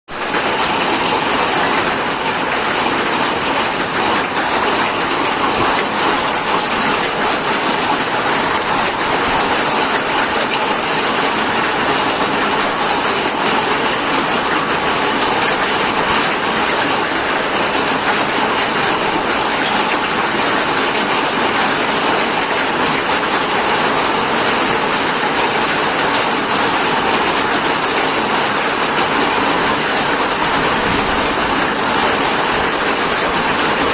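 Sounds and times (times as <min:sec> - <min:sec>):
hailstones clattering: 0:00.2 - 0:33.9.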